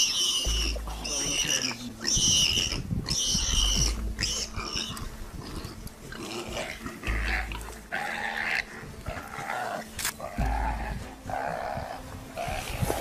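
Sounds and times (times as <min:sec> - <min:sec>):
animal calling: 0:00.0 - 0:13.0.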